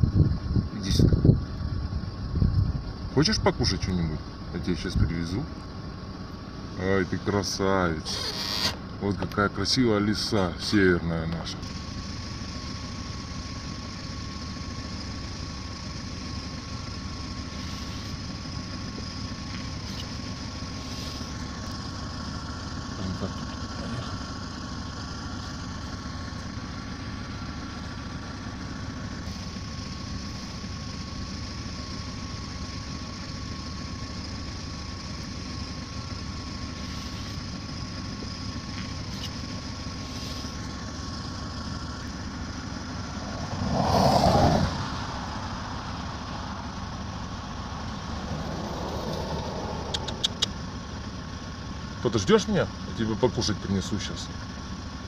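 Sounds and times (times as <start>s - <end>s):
thin steady whine: 0.0s - 54.4s
car engine idling: 0.0s - 55.0s.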